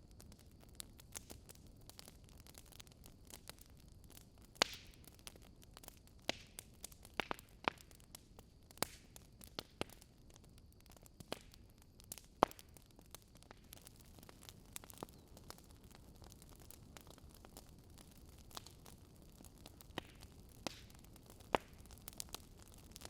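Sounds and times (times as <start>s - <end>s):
faint steady hiss: 0.0s - 23.0s
wood fire crackling and popping: 0.0s - 23.0s.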